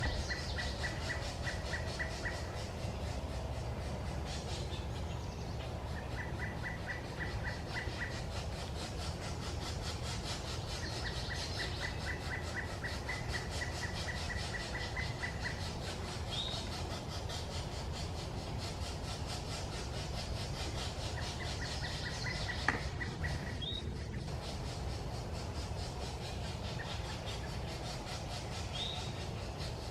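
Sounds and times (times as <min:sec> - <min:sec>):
low background rumble: 0:00.0 - 0:29.9
woodpecker calling: 0:00.0 - 0:29.9.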